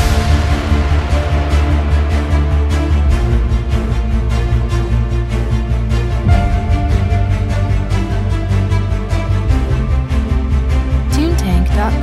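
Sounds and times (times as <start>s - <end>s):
background music with steady beat: 0.0s - 12.0s
deep bass notes: 0.0s - 12.0s.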